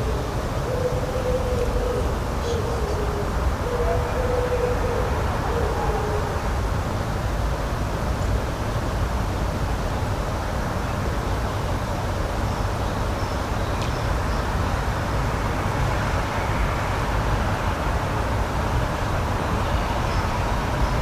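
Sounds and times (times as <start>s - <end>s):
rushing outdoor ambience: 0.0s - 21.0s.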